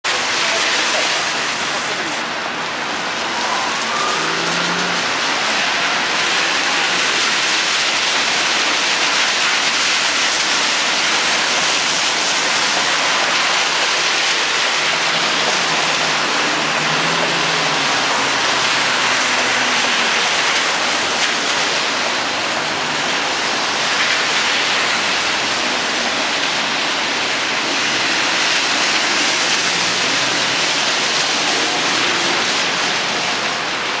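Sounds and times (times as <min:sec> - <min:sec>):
car tyres on wet road: 0:00.0 - 0:34.0
rain hissing on street: 0:00.0 - 0:34.0.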